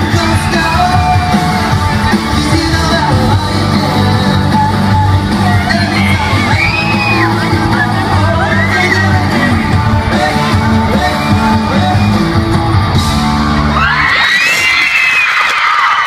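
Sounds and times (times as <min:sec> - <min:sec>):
live pop-rock band playing: 0:00.0 - 0:14.9
crowd screaming and cheering: 0:00.0 - 0:16.0.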